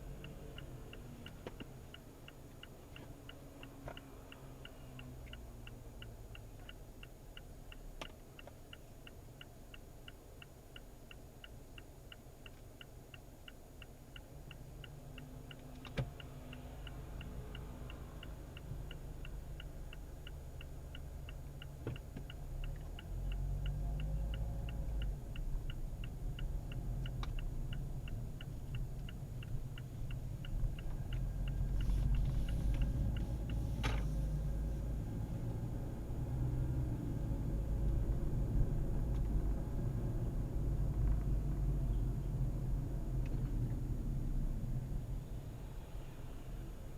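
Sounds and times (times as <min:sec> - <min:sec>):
light regular ticking: 0:00.0 - 0:44.1.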